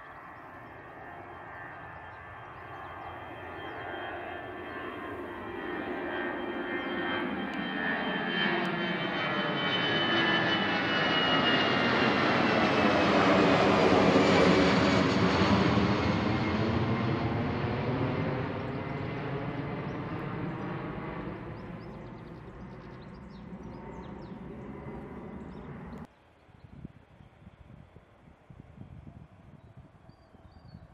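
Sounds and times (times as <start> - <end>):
jet airliner flying overhead: 0.0 - 30.9.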